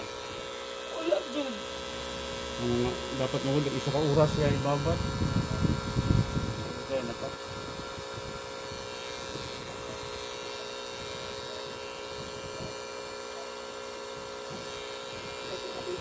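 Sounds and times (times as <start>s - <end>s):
tattoo machine buzzing: 0.0s - 16.0s.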